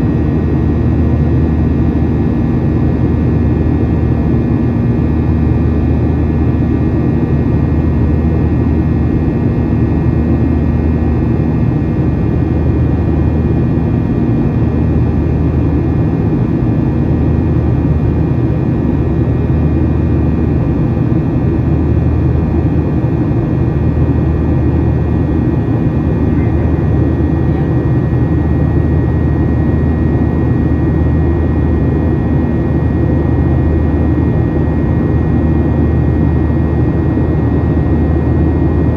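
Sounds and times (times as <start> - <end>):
jet engines and airflow drone: 0.0 - 38.9.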